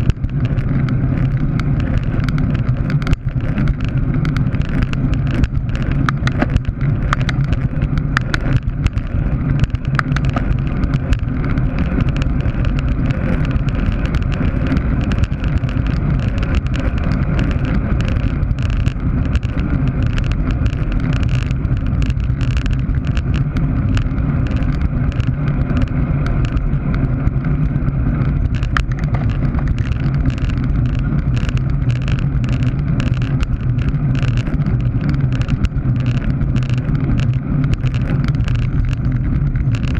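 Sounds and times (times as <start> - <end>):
deep road rumble: 0.0 - 39.9
small sharp clicks: 0.0 - 39.9
wind rushing over microphone: 0.0 - 39.9.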